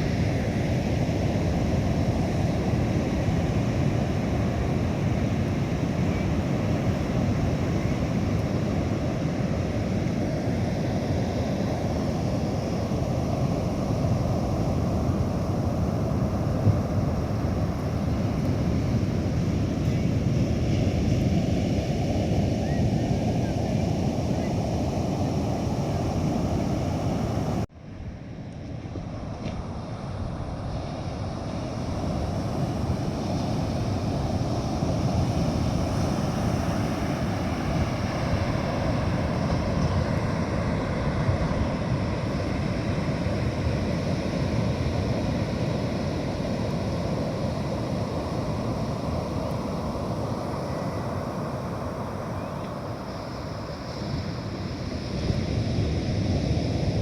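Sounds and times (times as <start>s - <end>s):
surf breaking on beach: 0.0s - 28.1s, 28.7s - 57.0s
wind buffeting microphone: 0.0s - 57.0s.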